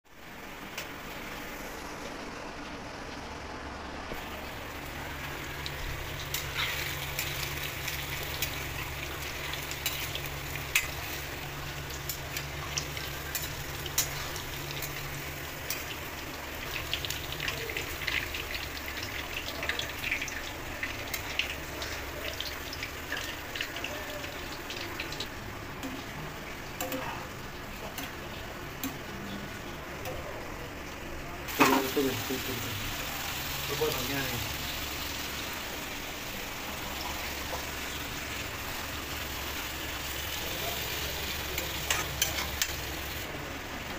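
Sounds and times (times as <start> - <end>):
cheese sizzling in oil: 4.1 - 43.9.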